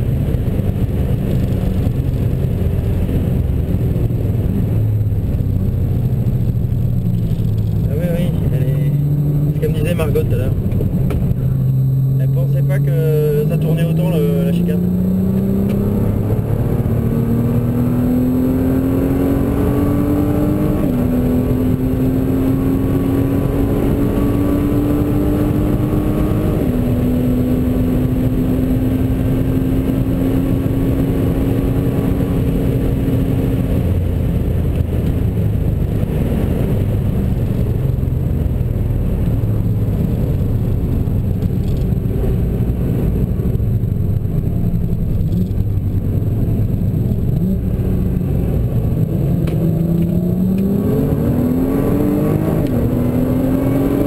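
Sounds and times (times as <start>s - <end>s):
car engine accelerating hard: 0.0s - 54.0s
road and wind noise: 0.0s - 54.0s.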